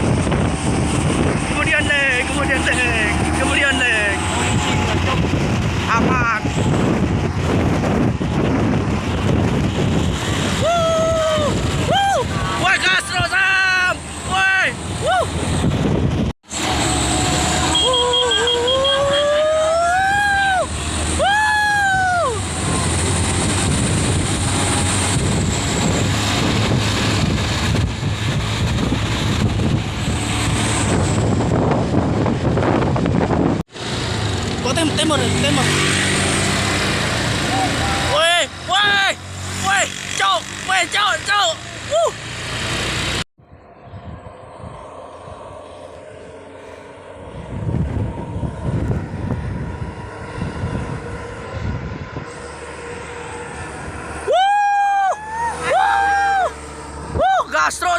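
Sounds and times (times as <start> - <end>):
wind buffeting microphone: 0.0 - 1.8, 2.4 - 13.6, 14.8 - 17.5, 20.0 - 37.5, 43.0 - 57.8
diesel truck engine droning: 0.0 - 57.9.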